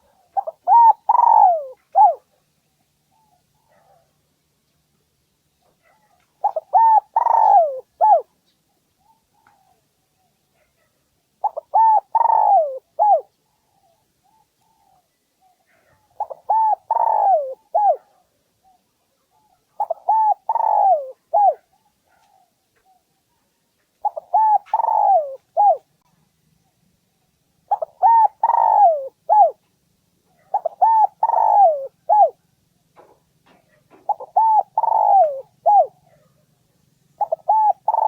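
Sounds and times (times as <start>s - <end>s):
dove cooing song: 0.0s - 4.1s, 5.6s - 26.0s, 27.6s - 29.7s, 30.3s - 38.0s.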